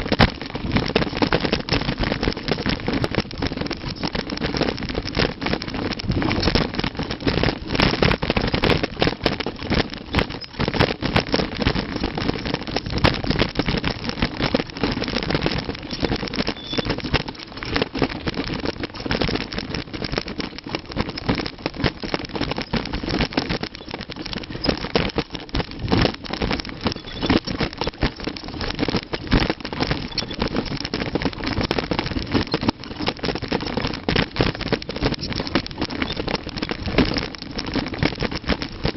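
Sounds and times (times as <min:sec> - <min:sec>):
mountain bike rattling on rough trail: 0:00.0 - 0:38.9.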